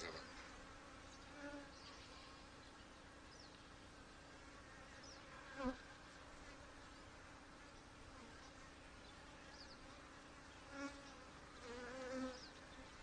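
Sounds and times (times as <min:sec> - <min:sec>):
honey bees humming: 0:00.0 - 0:13.0.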